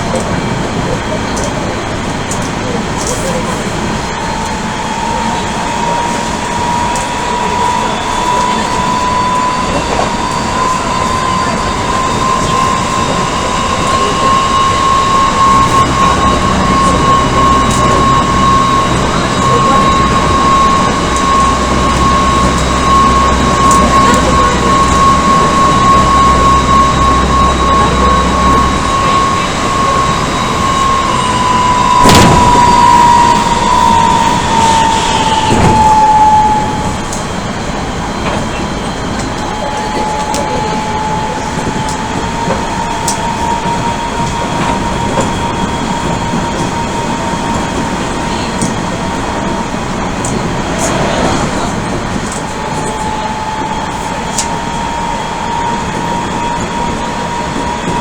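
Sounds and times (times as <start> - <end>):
electric train motor whine: 0.0 - 58.0
wheel and rail rumble: 0.0 - 58.0.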